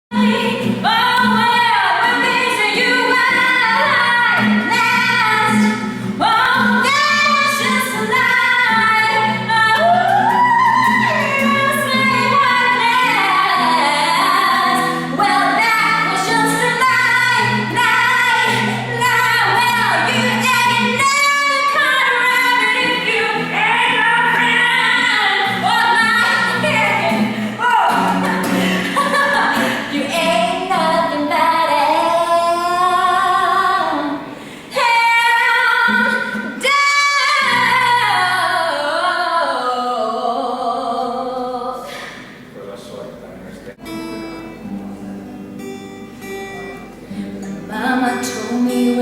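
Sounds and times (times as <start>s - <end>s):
woman singing: 0.1s - 42.1s, 47.1s - 49.0s.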